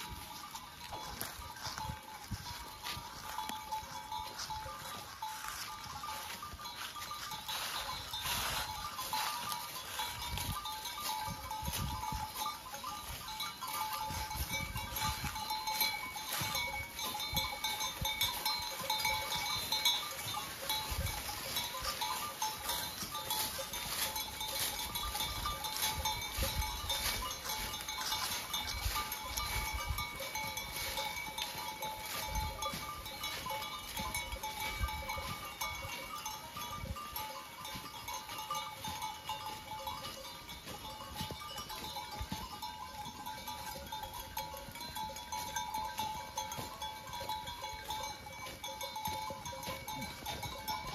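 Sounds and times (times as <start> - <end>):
goat bells ringing: 0.0 - 50.9
hooves crackling dry leaves: 0.0 - 50.9.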